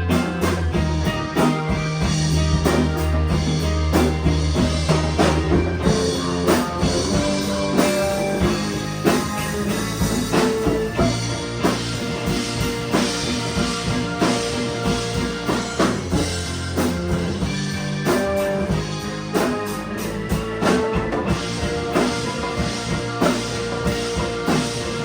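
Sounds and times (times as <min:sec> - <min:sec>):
drum kit steady beat: 0:00.0 - 0:25.0
rock band playing: 0:00.0 - 0:25.0.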